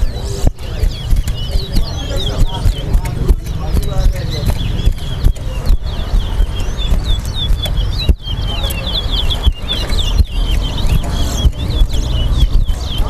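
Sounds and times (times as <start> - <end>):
finch chirping song: 0.0 - 13.0
wind rumble on microphone: 0.0 - 13.0.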